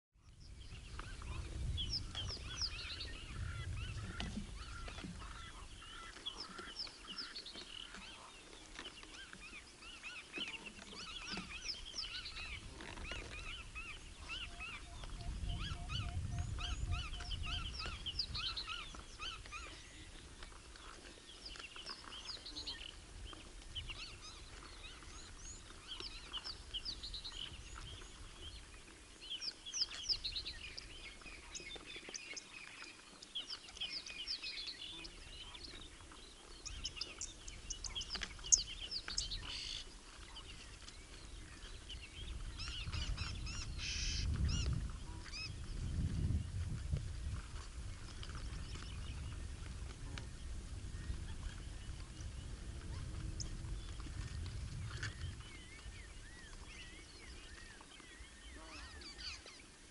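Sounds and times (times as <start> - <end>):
birds chirping and calling: 0.2 - 45.9, 51.0 - 59.8.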